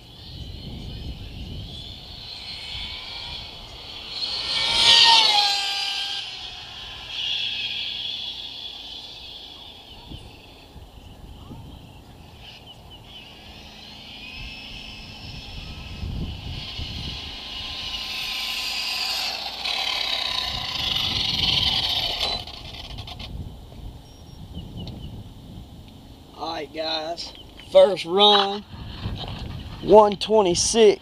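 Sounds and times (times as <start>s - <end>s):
rc car motor whining: 0.0s - 25.5s.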